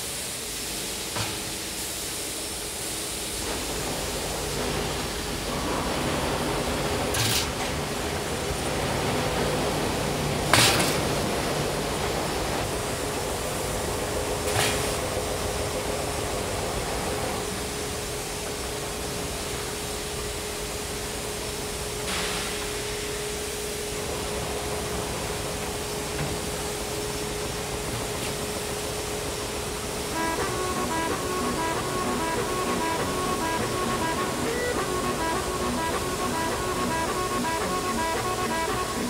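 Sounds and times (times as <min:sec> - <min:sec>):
hiss: 0:00.0 - 0:39.0
machinery hum: 0:00.0 - 0:39.0.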